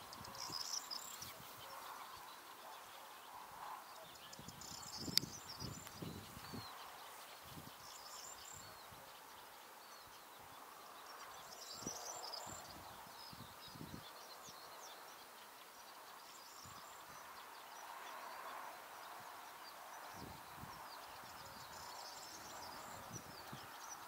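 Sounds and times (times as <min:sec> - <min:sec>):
distant songbirds chirping: 0:00.0 - 0:24.0.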